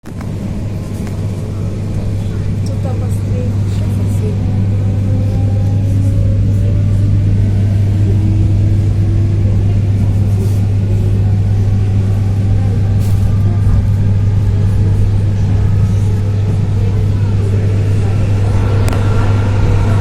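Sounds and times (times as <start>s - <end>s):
electric train hum and rumble: 0.0s - 20.0s.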